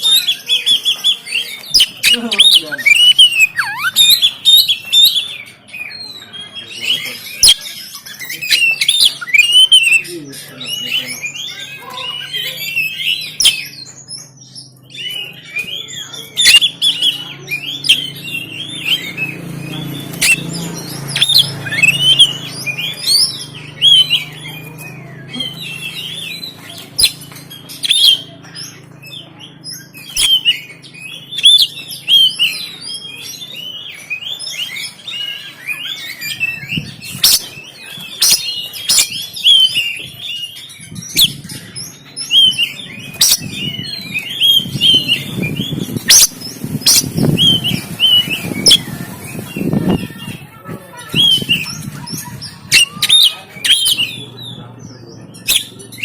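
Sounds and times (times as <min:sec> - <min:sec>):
bird singing: 0:00.0 - 0:56.0.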